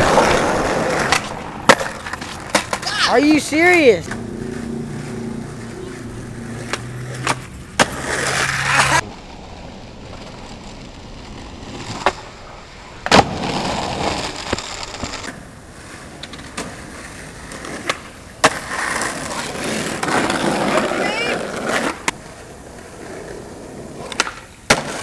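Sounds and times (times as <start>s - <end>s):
skateboard clacking on ground: 0.0s - 9.1s, 10.0s - 25.0s
skateboard wheels rolling on asphalt: 0.0s - 25.0s.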